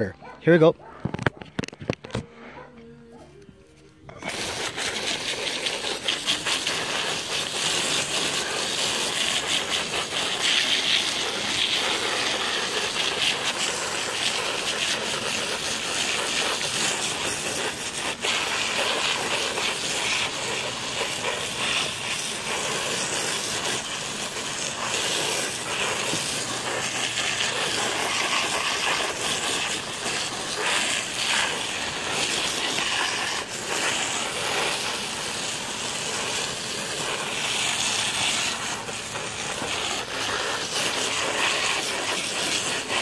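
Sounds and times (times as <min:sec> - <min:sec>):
hose water spraying on tires: 0:04.1 - 0:43.0.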